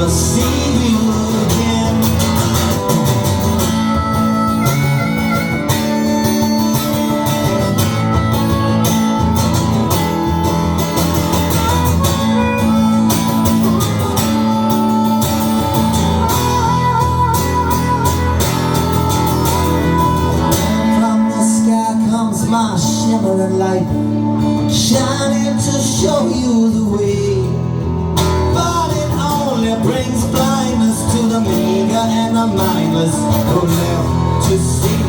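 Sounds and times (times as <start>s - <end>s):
lead guitar: 0.0s - 35.0s
live country band playing: 0.0s - 35.0s.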